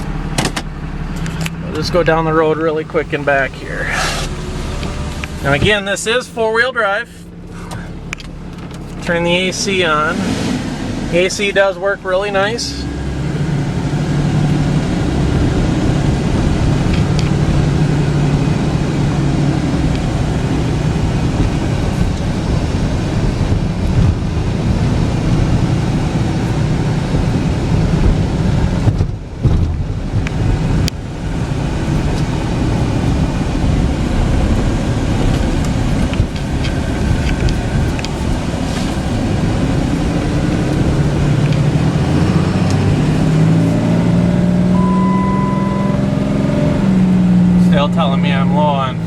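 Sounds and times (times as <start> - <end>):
truck engine and road drone: 0.0 - 49.0.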